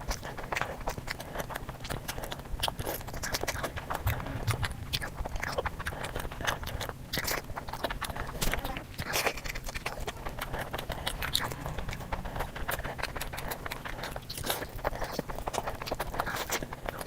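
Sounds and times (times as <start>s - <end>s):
wet chewing and mouth clicks: 0.0s - 17.0s.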